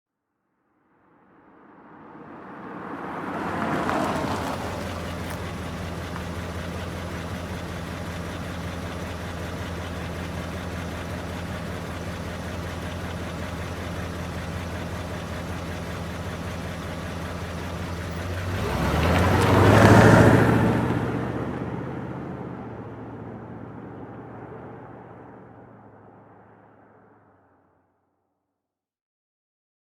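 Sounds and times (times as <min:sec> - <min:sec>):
car engine idling and revving: 0:01.9 - 0:27.4.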